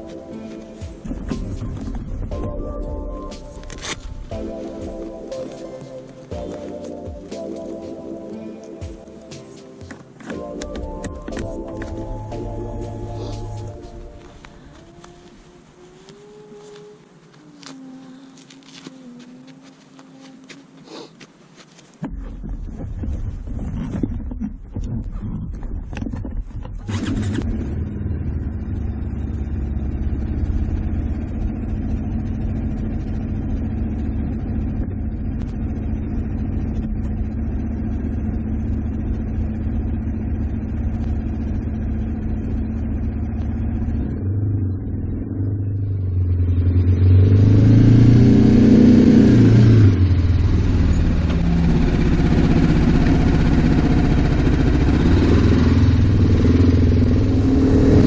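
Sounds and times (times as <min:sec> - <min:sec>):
motorcycle engine running: 0:00.0 - 0:16.9, 0:22.0 - 0:58.0.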